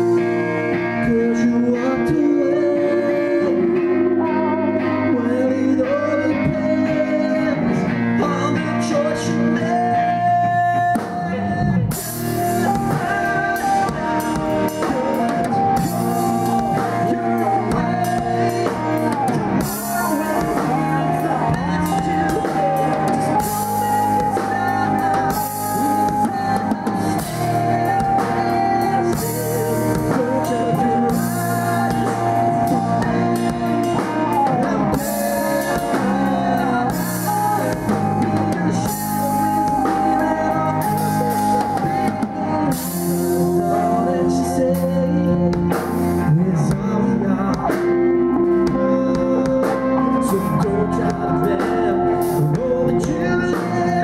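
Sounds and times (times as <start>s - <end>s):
drum kit: 0.0s - 54.0s
live rock band playing: 0.0s - 54.0s.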